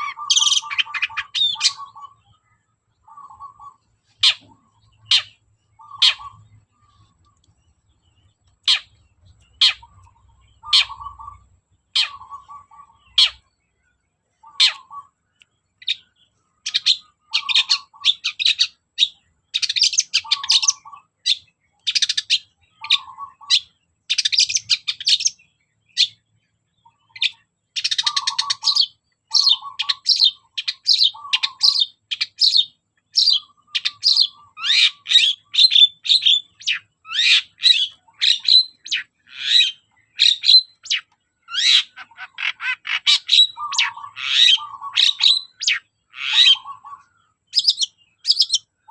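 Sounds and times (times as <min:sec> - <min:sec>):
bird singing sharp high calls: 0:00.0 - 0:48.9.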